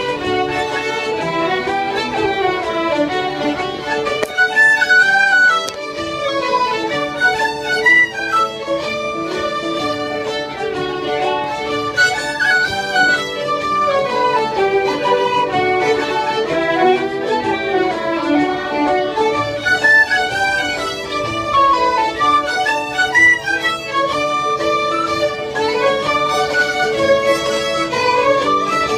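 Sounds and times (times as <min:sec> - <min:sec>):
group of fiddles playing: 0:00.0 - 0:28.9.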